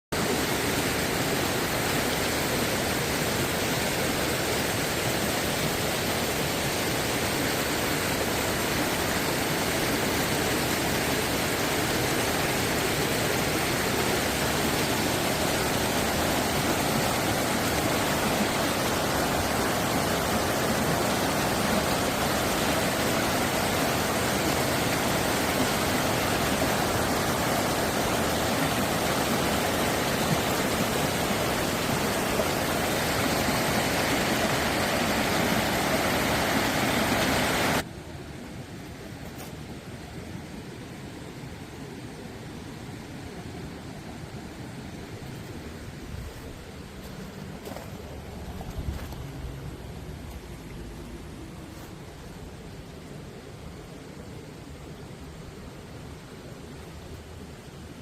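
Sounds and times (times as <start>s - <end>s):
stream flowing: 0.2s - 58.0s.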